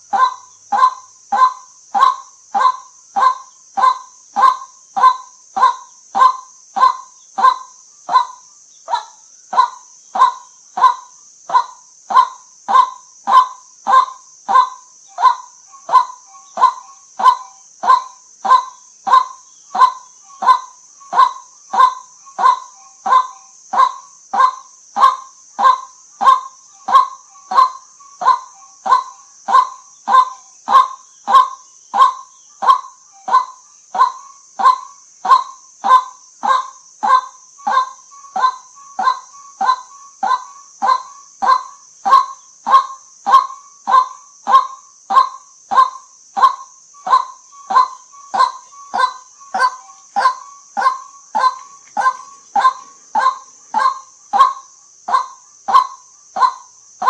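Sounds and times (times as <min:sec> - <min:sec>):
waterhen kwak calls: 0:00.0 - 0:56.7
steady high hiss: 0:00.0 - 0:57.0.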